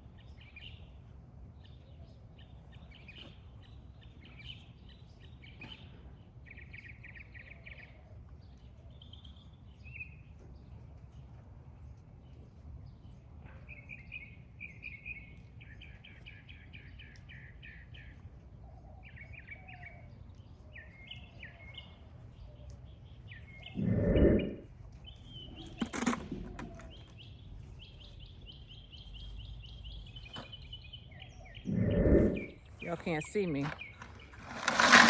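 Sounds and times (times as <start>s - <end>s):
songbird chirping: 0.0s - 35.0s.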